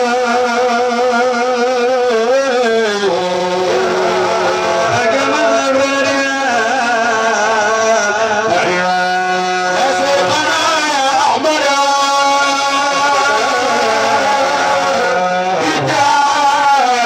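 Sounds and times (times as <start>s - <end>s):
man chanting through loudspeakers: 0.0s - 17.0s.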